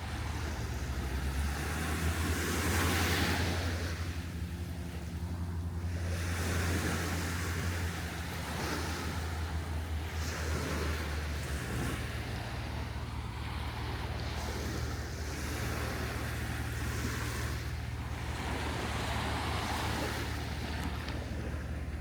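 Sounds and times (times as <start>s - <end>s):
surf washing in: 0.0s - 22.0s
vehicle engine running: 0.0s - 22.0s
wind: 0.0s - 22.0s.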